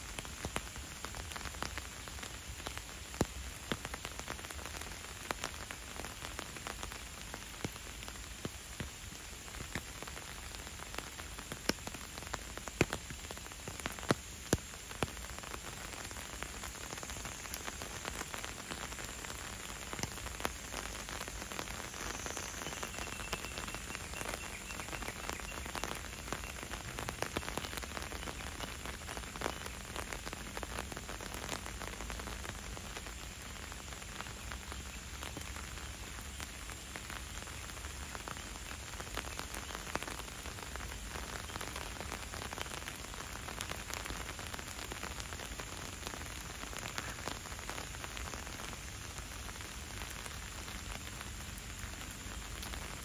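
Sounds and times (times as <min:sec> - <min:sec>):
raindrops ticking: 0:00.0 - 0:53.0
steady rain hiss: 0:00.0 - 0:53.0.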